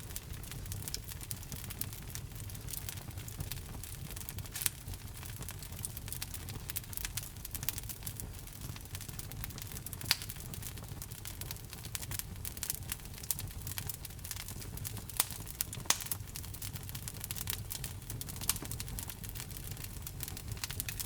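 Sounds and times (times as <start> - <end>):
fire crackling: 0.0 - 21.0
fire low rumble: 0.0 - 21.0
loud fire pops: 0.2 - 21.0.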